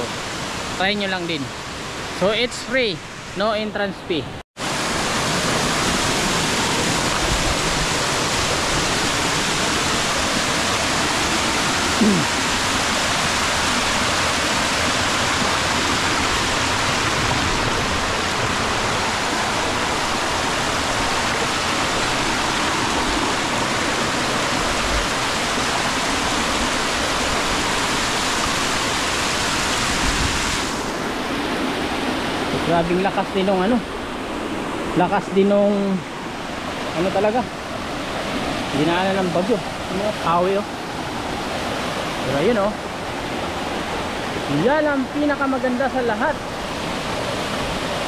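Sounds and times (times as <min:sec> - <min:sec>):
waterfall rushing over rocks: 0:00.0 - 0:48.0.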